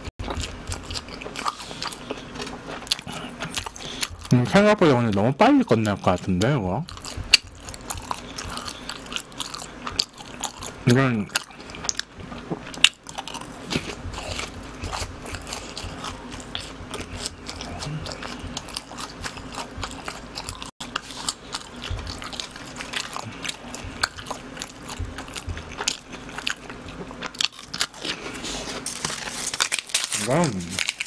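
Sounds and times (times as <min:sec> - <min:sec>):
person crunching fried food: 0:00.2 - 0:04.3, 0:05.7 - 0:31.0.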